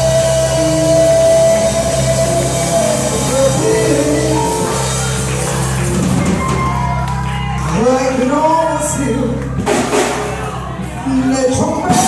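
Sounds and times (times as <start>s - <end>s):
bass line: 0.0s - 12.0s
keyboard sustained chords: 0.0s - 12.0s.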